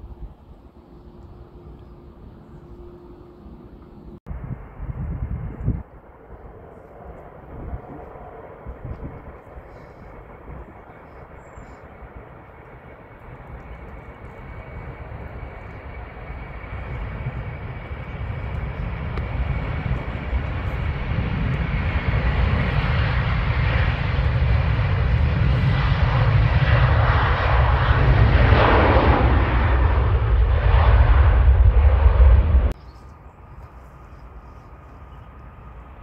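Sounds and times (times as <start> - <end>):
jet engines at takeoff power: 0.0 - 36.0.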